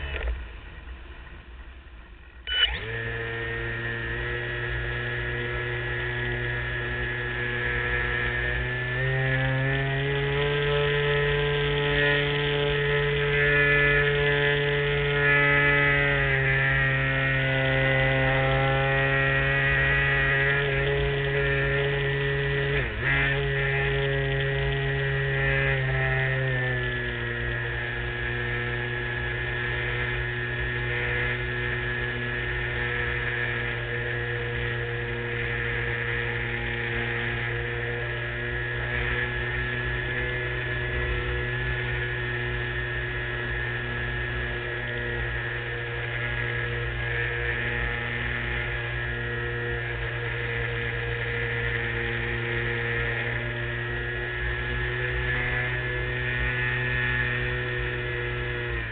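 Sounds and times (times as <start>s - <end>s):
model plane motor droning: 0.0s - 58.9s.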